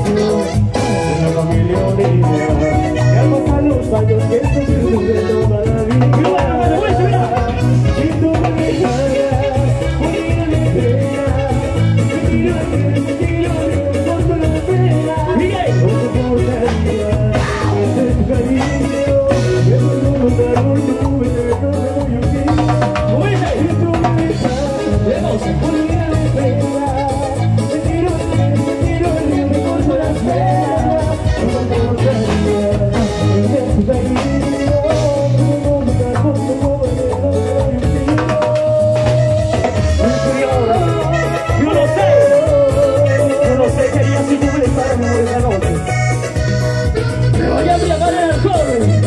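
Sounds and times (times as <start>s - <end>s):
drum kit with timbales: 0.0s - 49.0s
electric guitar: 0.0s - 49.0s
keyboard: 0.0s - 49.0s
live band playing latin dance music: 0.0s - 49.0s
man singing: 0.0s - 49.0s
steady bass line: 0.0s - 49.0s.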